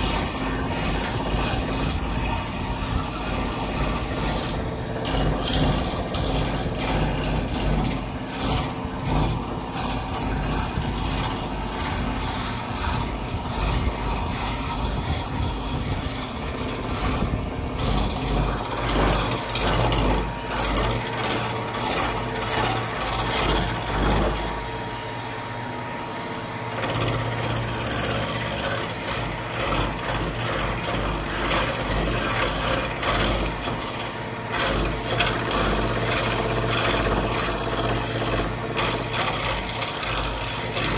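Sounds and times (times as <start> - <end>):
chisel scraping spinning wood: 0.0 - 40.9
steady low hum: 0.0 - 40.9.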